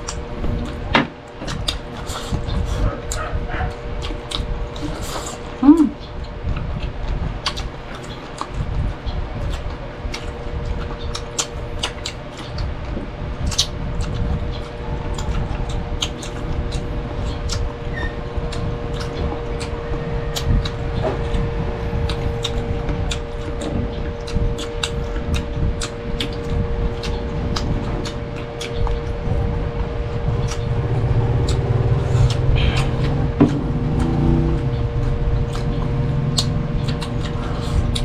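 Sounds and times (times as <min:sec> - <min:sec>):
chewing with clicks and smacks: 0:00.0 - 0:38.0
steady low hum: 0:00.0 - 0:38.0.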